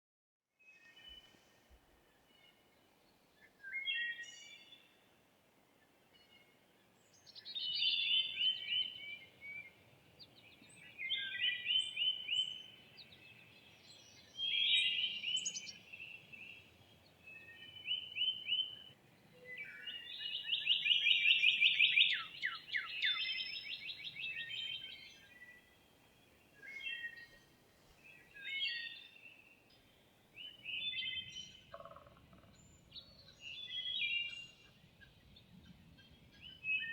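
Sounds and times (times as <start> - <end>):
faint background hiss: 0.7 - 36.8
songbirds singing: 0.8 - 36.9.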